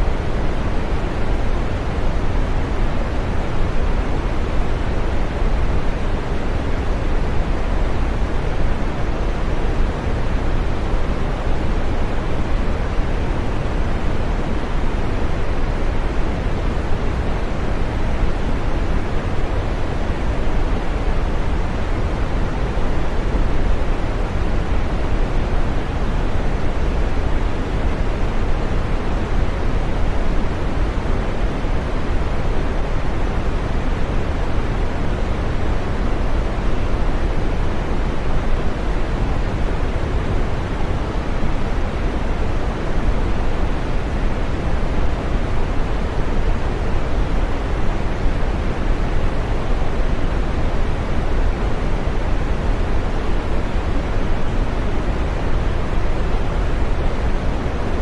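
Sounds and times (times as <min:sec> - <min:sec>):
green noise hiss: 0:00.0 - 0:58.0.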